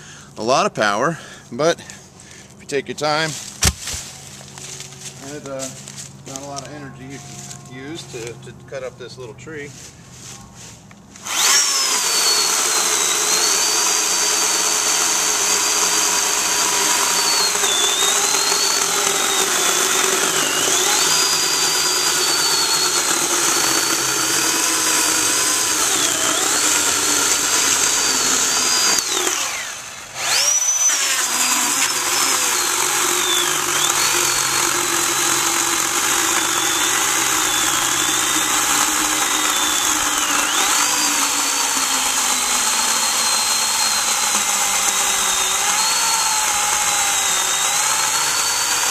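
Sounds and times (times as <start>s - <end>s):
electric chainsaw cutting log: 3.4s - 8.4s, 11.2s - 48.9s.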